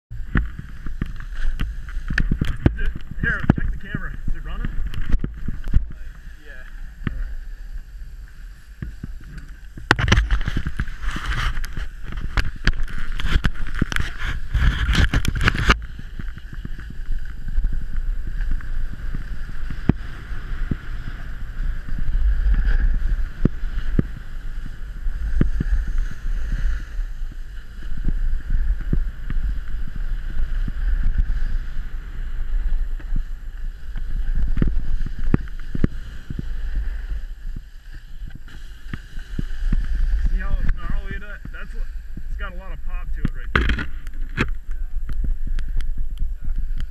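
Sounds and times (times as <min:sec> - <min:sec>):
wind rumbling on microphone: 0:00.1 - 0:46.9
snowboard scraping over snow: 0:00.2 - 0:46.9.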